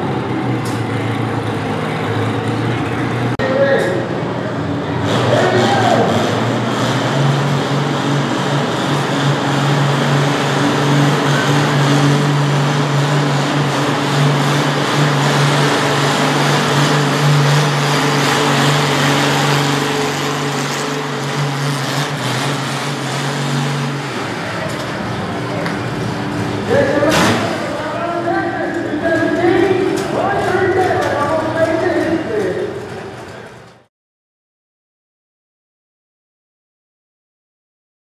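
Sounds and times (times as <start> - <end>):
tractor engine at full throttle: 0.0 - 33.9.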